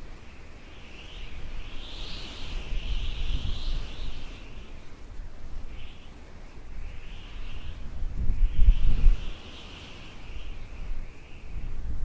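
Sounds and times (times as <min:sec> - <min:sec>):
high hissy chorus: 0:00.0 - 0:11.7
wind buffeting microphone: 0:00.0 - 0:12.0.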